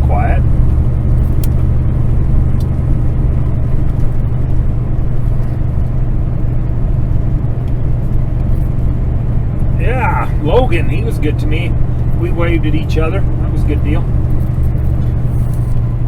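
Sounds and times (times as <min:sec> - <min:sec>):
diesel truck engine droning: 0:00.0 - 0:16.0.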